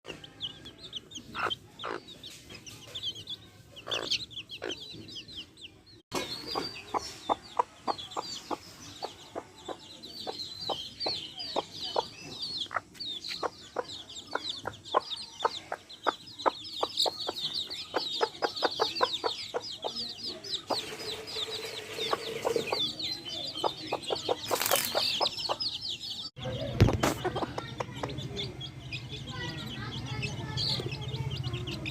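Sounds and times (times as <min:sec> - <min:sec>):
hens clucking: 0:00.1 - 0:26.0, 0:26.7 - 0:28.8
chicks peeping: 0:00.1 - 0:31.9.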